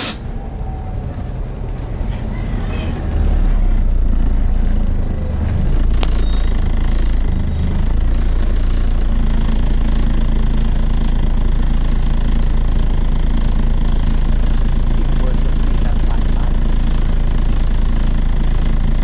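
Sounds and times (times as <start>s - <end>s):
bus diesel engine idling: 0.0s - 19.0s.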